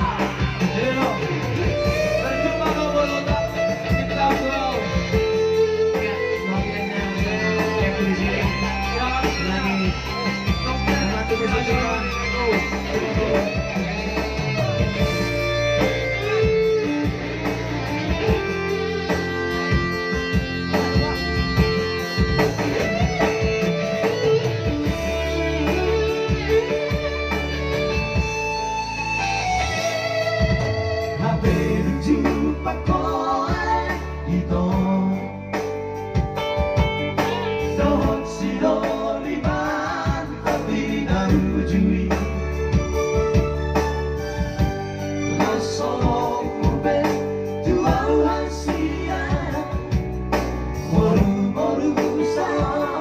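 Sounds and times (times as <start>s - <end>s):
band backing: 0.0s - 53.0s
plucked electric guitar melody: 0.0s - 53.0s.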